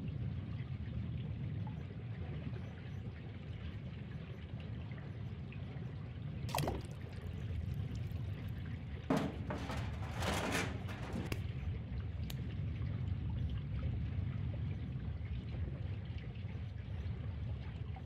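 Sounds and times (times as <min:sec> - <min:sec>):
flowing water: 0:00.0 - 0:18.0.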